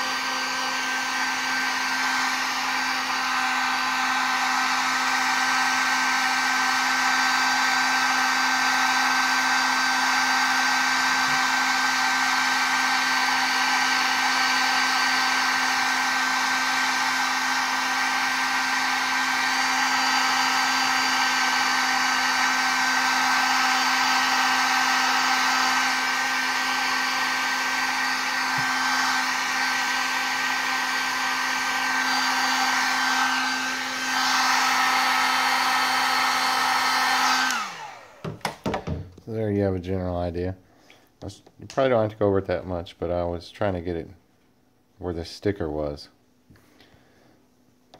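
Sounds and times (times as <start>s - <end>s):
heat gun fan blowing: 0.0s - 39.5s.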